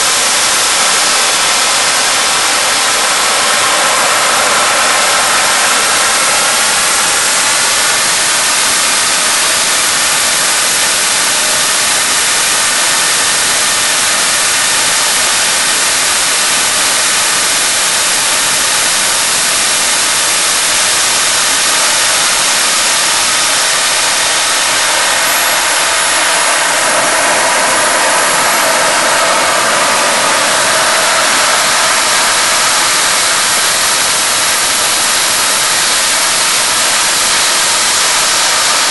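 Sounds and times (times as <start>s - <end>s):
turbojet roaring: 0.0s - 38.9s.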